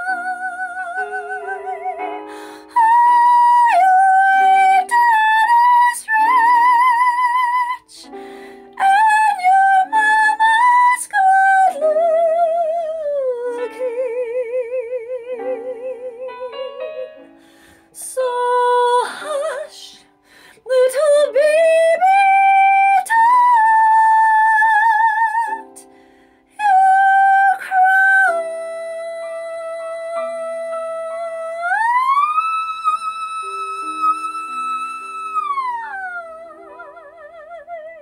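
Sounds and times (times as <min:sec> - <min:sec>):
lower melody with vibrato: 0:00.0 - 0:38.0.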